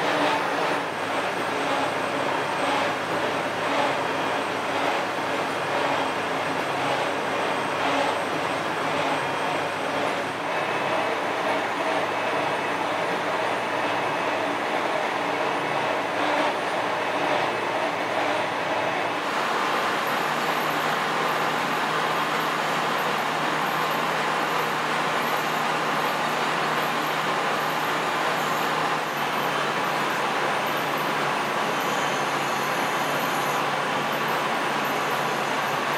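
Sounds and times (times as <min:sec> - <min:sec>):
workshop machinery noise: 0:00.0 - 0:35.9.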